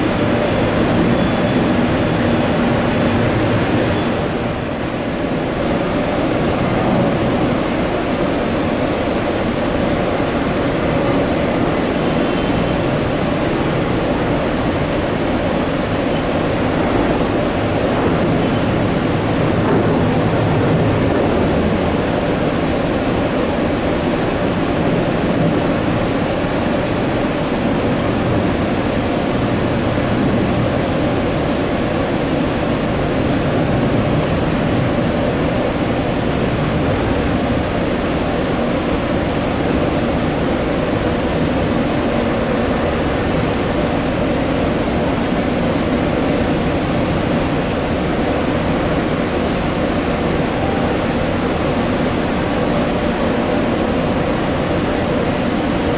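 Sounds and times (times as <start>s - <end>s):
jet airliner engines running: 0.0s - 55.9s.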